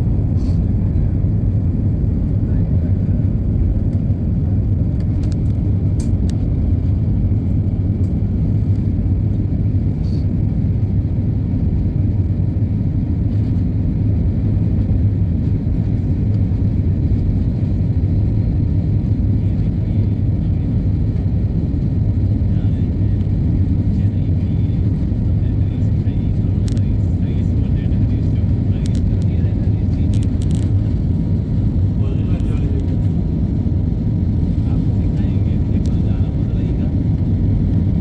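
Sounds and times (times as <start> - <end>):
airplane cabin engine drone: 0.0 - 38.0.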